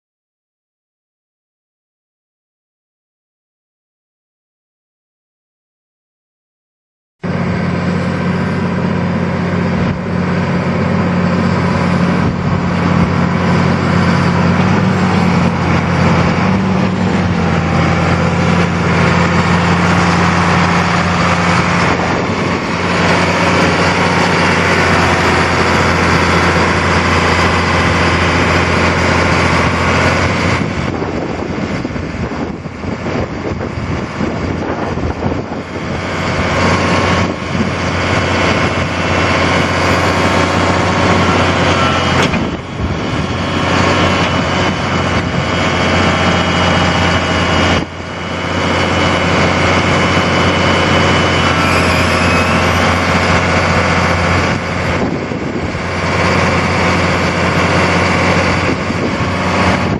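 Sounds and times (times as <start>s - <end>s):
tractor diesel engine running: 7.2s - 59.9s.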